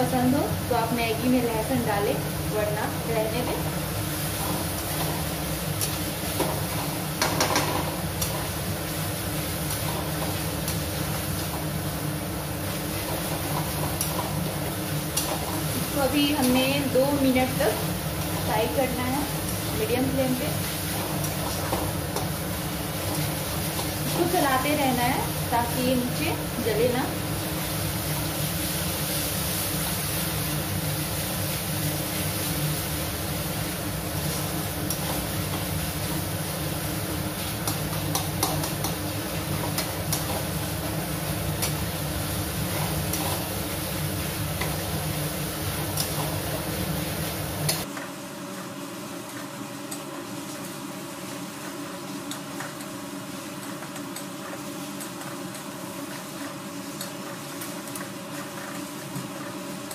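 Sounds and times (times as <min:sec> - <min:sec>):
masala sizzling in a pan: 0:00.0 - 0:59.9.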